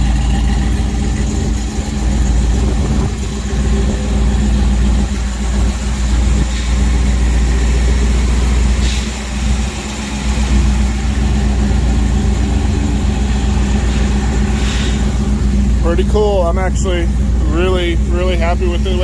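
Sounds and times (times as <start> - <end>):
pickup truck engine idling: 0.0 - 19.0.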